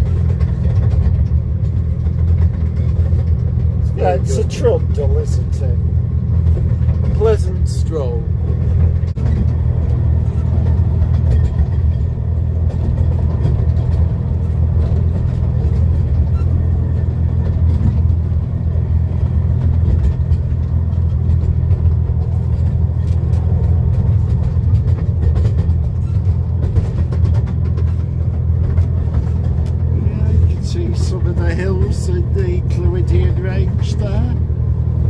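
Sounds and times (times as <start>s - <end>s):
miniature train rumbling: 0.0s - 35.0s.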